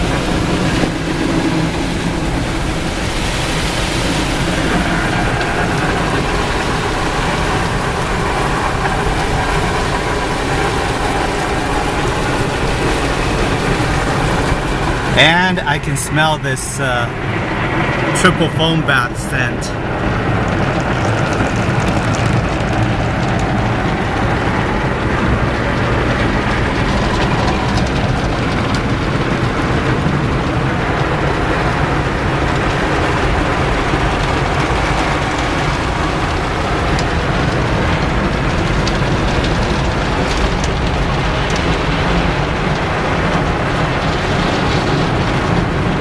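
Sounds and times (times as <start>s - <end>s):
water spray drumming on car: 0.0s - 15.2s, 19.9s - 46.0s
low rumble of wash machinery: 0.0s - 46.0s.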